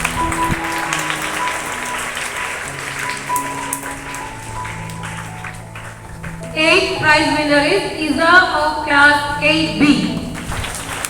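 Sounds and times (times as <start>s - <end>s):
audience clapping: 0.0s - 7.8s, 9.8s - 11.0s
music of long held notes: 0.0s - 11.0s.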